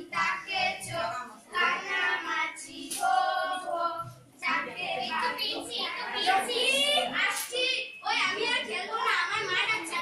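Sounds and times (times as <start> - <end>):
girls singing together: 0.0 - 10.0.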